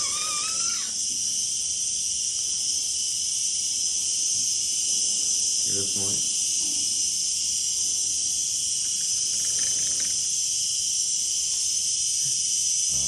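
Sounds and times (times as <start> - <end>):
cicada buzzing: 0.0 - 13.0.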